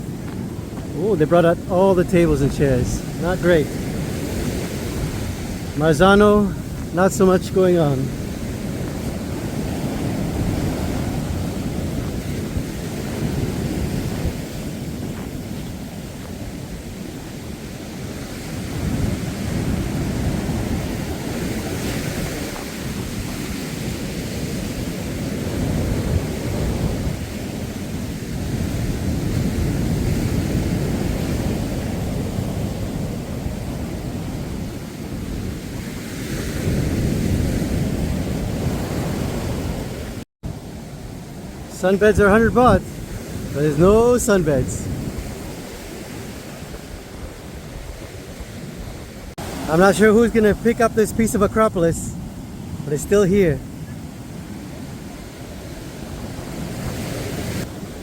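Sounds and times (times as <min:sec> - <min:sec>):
waves breaking on a beach: 0:00.0 - 0:58.0
wind rumbling on microphone: 0:00.0 - 0:58.0.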